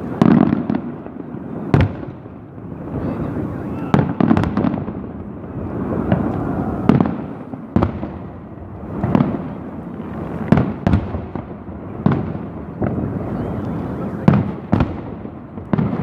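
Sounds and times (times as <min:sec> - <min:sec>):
fireworks bursting with bangs: 0:00.0 - 0:16.0
rolling rumble and echo: 0:00.6 - 0:16.0.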